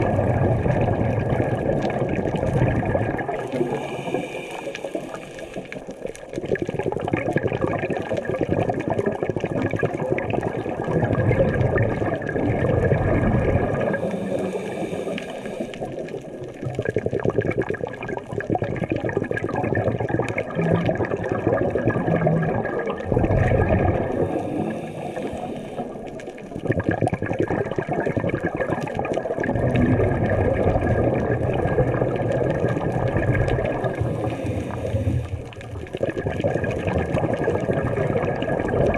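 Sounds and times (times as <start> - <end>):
underwater rushing and gurgling: 0.0 - 38.9.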